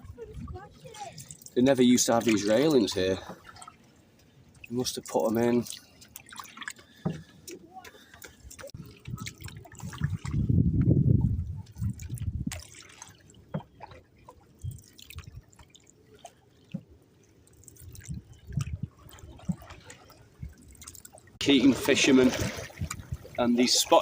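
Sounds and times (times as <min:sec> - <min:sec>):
paddle splashing in water: 0:00.0 - 0:24.0.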